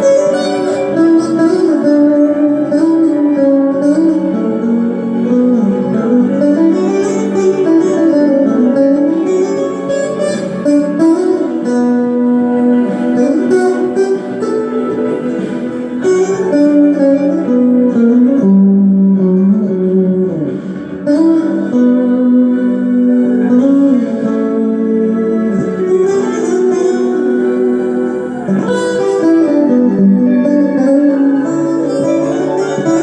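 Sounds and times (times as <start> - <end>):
guitar melody: 0.0 - 33.0
instrumental accompaniment: 0.0 - 33.0.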